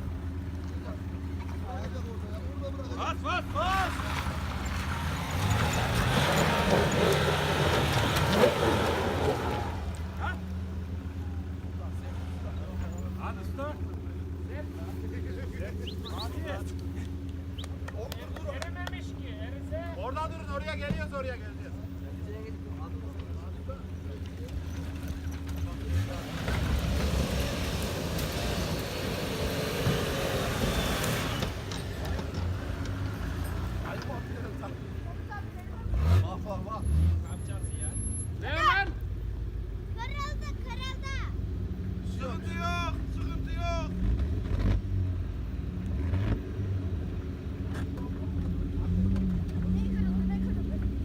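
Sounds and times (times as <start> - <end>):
vehicle engine droning under load: 0.0 - 51.0.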